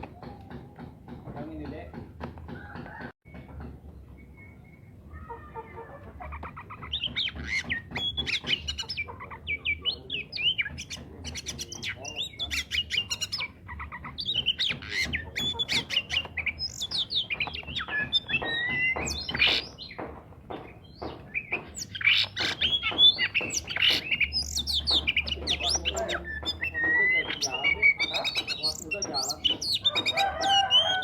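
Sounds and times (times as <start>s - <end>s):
songbird singing: 2.9s - 31.0s.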